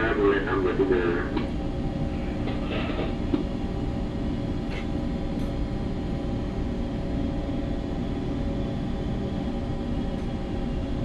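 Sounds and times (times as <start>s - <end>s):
constant machinery tones: 0.0s - 11.0s
ship engine rumble and hum: 0.0s - 11.0s.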